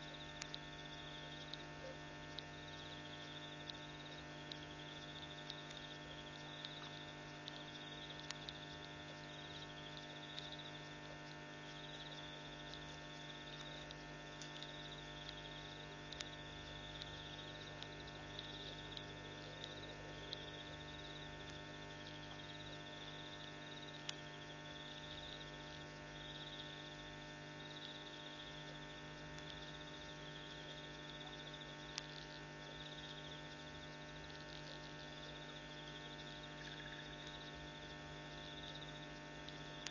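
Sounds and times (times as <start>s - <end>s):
electrical mains hum: 0.0s - 39.9s
faint high-pitched pulsing: 0.0s - 39.9s
faint clicks: 0.3s - 22.8s, 27.7s - 39.9s.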